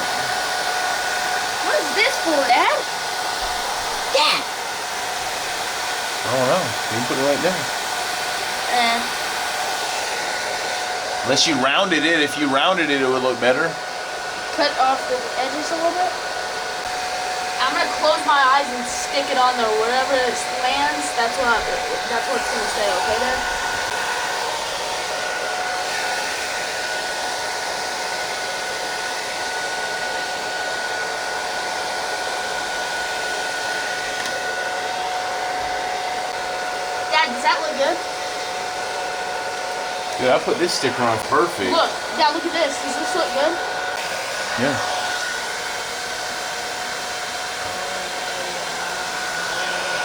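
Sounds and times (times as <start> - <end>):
hot-air blower rushing and whining: 0.0 - 50.0.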